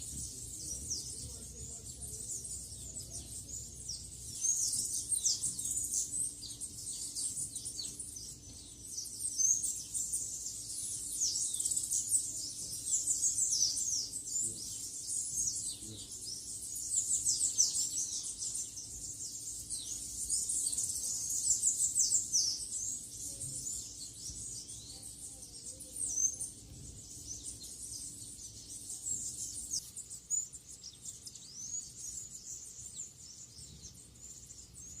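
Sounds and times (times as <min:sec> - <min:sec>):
faint low hum: 0:00.0 - 0:35.0
small birds chirping: 0:00.0 - 0:35.0.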